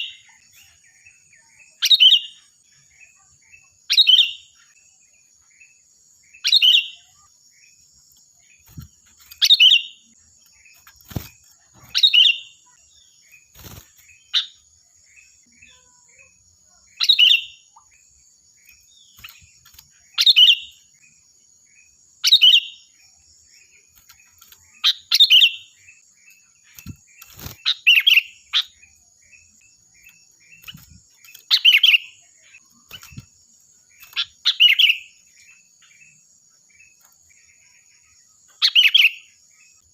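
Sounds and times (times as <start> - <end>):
bird singing ringing phrases: 0.0 - 39.9
soft bird chirps: 0.0 - 39.9.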